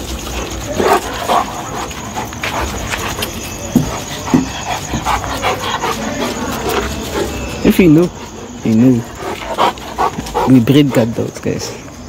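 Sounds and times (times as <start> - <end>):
dogs play-fighting growls: 0.0 - 11.4.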